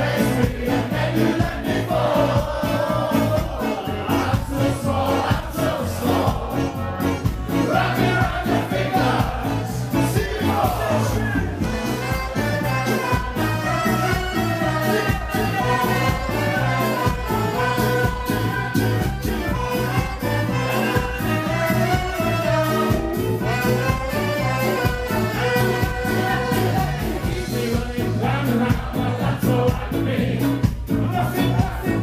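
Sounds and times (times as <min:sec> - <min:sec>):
horns: 0:00.0 - 0:28.8
person singing: 0:00.0 - 0:29.7
drum and bass beat: 0:00.0 - 0:32.0.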